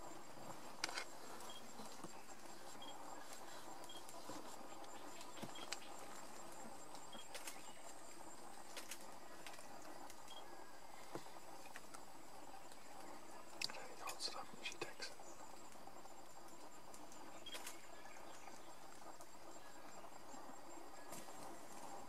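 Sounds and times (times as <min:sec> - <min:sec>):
insects droning with high buzz: 0:00.0 - 0:22.0.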